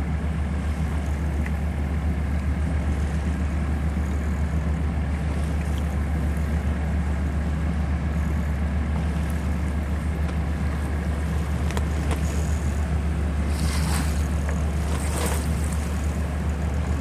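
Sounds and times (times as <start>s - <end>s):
boat engine drone: 0.0s - 17.0s
water noise: 0.0s - 17.0s.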